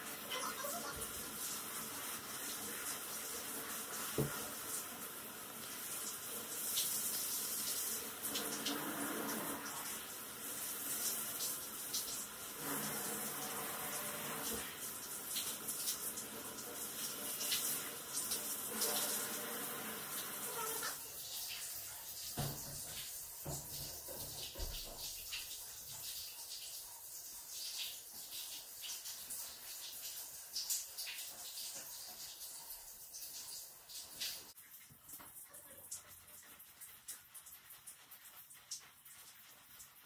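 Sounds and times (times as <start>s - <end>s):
shower spray hissing and splashing: 0.0s - 40.0s.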